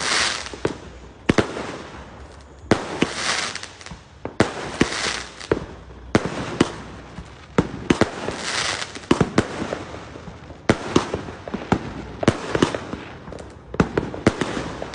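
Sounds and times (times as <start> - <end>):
fireworks banging and crackling: 0.0 - 14.9.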